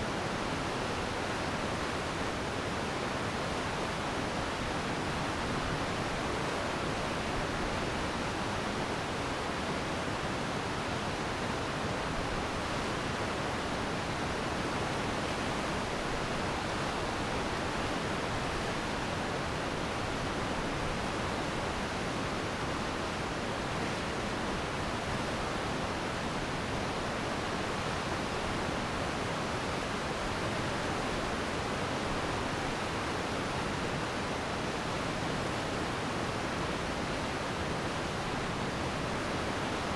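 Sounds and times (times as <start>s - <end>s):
stream rushing over rocks: 0.1s - 39.9s.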